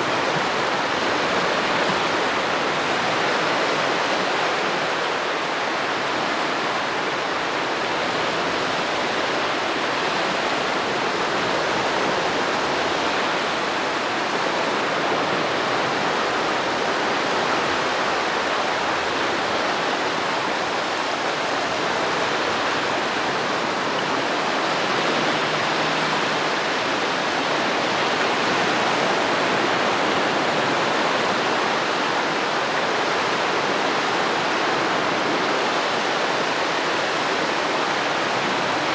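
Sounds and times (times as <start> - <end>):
small waves washing onto sandy shore: 0.0 - 38.9.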